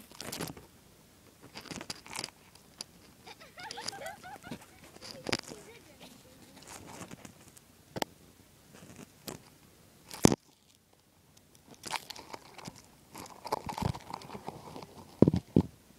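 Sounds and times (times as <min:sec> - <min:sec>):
grass rustling against a phone: 0:00.0 - 0:07.7, 0:08.7 - 0:15.8.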